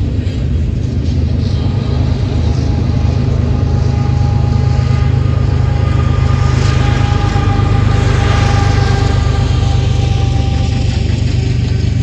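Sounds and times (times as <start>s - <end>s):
diesel locomotive drone: 0.0s - 12.0s
wheels rumbling on rails: 0.0s - 12.0s
thin whining tones: 0.8s - 12.0s.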